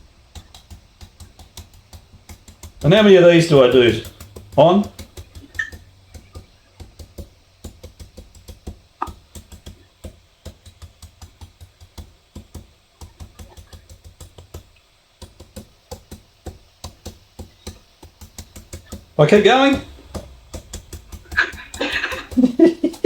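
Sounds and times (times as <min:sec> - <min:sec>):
knife chopping on cutting board: 0:00.3 - 0:23.0.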